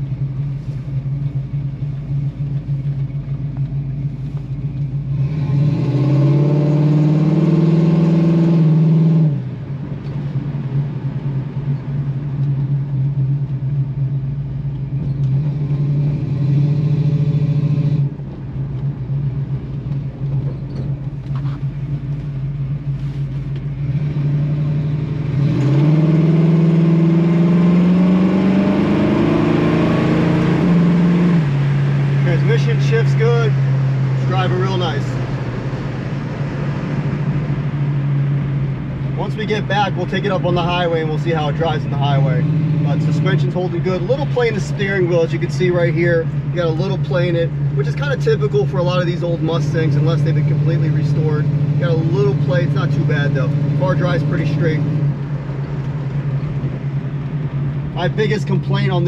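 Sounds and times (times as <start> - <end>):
car engine accelerating through gears: 0.0 - 59.0.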